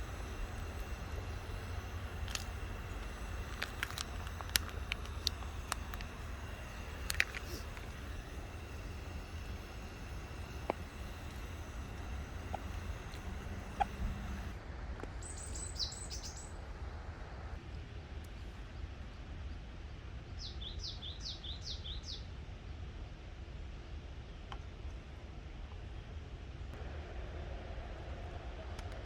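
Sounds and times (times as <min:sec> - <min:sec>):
low outdoor rumble: 0:00.0 - 0:20.4, 0:22.3 - 0:29.0.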